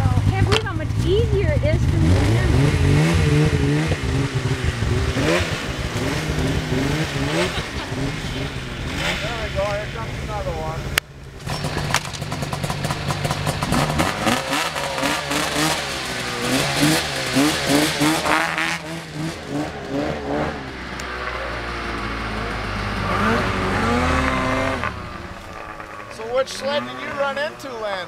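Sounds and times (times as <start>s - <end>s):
snowmobile engines revving: 0.0s - 28.0s.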